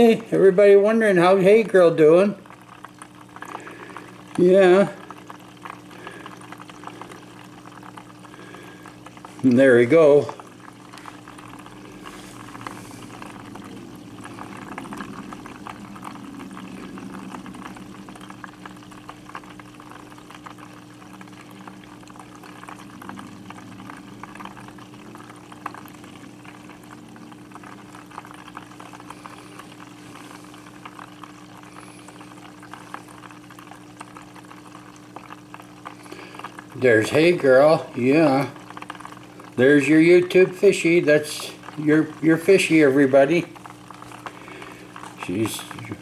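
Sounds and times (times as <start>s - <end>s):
water bubbling and trickling: 0.0s - 46.0s.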